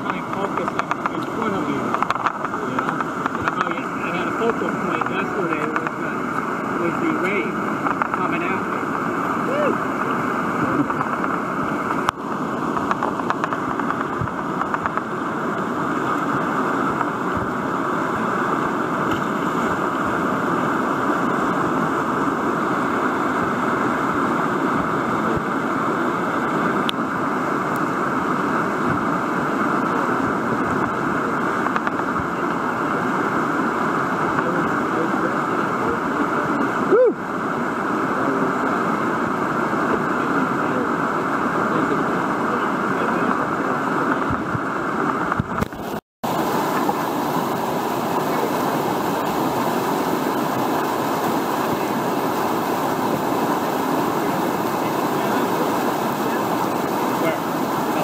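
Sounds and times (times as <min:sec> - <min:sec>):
whitewater roaring: 0:00.0 - 0:58.0.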